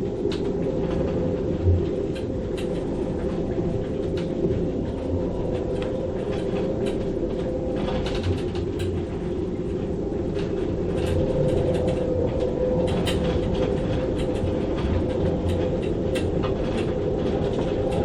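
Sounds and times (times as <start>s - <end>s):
low rumble: 0.0s - 18.0s
wind howling through rigging: 0.0s - 18.0s.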